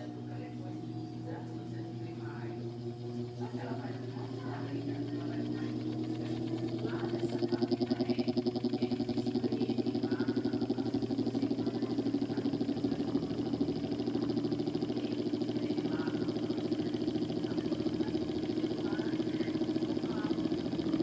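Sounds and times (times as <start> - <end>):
electric fan humming and fluttering: 0.0 - 21.0.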